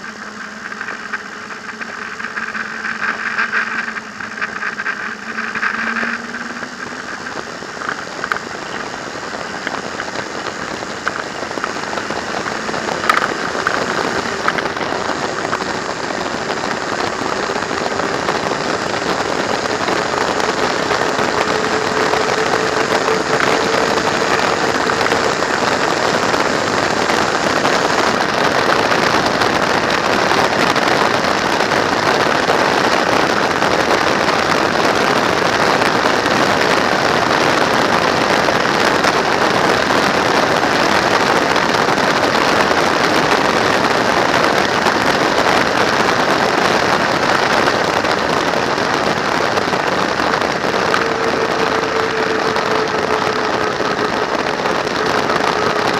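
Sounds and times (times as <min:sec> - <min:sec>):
road and engine noise: 0:00.0 - 0:55.9
wind noise on microphone: 0:00.0 - 0:55.9.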